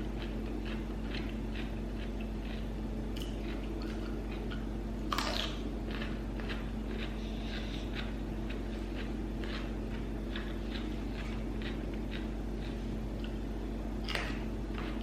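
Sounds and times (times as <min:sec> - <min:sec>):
person chewing crunchy vegetables: 0:00.0 - 0:15.0
steady low hum: 0:00.0 - 0:15.0.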